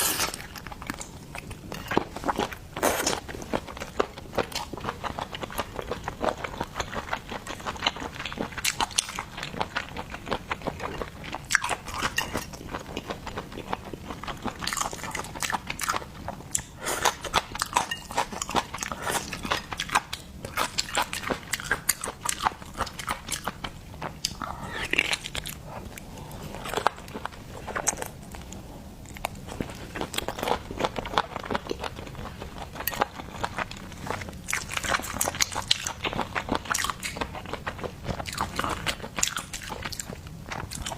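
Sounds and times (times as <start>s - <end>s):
chewing seafood with crunching: 0.0s - 40.9s.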